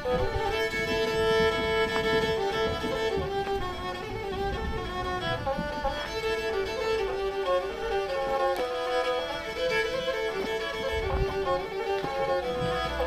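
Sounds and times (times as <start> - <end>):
bowed fiddle playing quick melody: 0.0 - 13.0.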